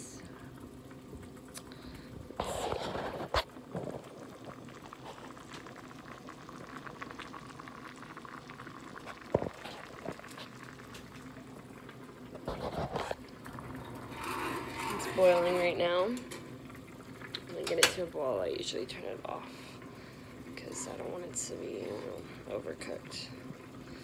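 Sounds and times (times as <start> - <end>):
soup bubbling at a boil: 0.1 - 24.0.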